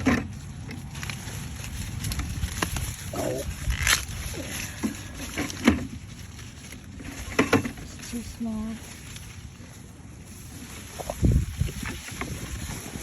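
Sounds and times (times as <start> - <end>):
corn stalks rustling: 0.0 - 13.0.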